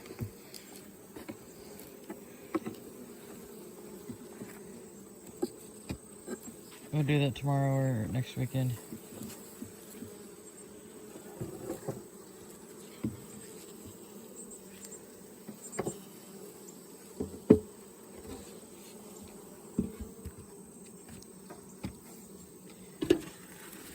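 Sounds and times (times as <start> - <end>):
bees buzzing: 0.0 - 23.9.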